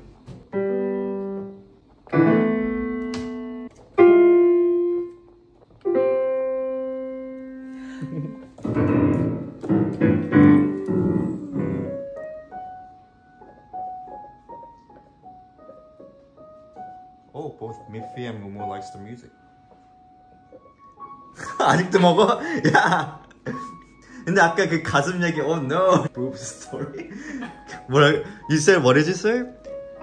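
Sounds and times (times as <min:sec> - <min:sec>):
digital piano chords: 0:00.0 - 0:30.0
piano single notes: 0:00.0 - 0:30.0.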